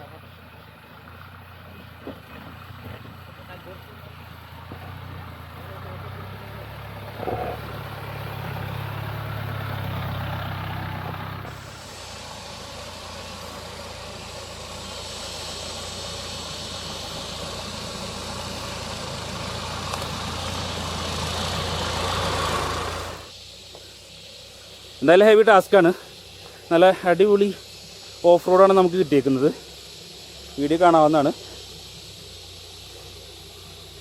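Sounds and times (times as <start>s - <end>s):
hiss: 0.0s - 34.0s
jeep engine running: 0.0s - 34.0s.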